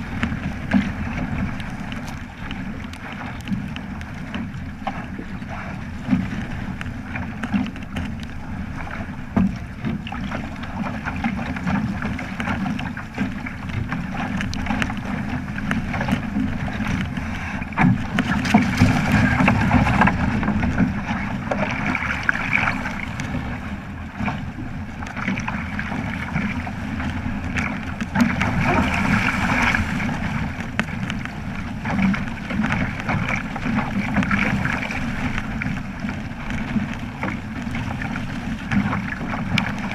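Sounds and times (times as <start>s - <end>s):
water rushing along hull: 0.0s - 39.9s
wind buffeting microphone: 0.0s - 39.9s.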